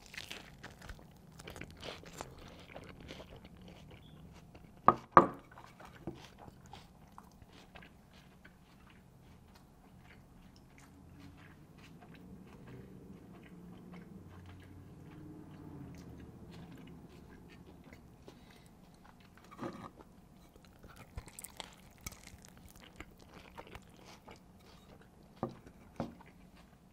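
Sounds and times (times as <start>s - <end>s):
tacos crackling on clay plate: 0.0s - 26.9s.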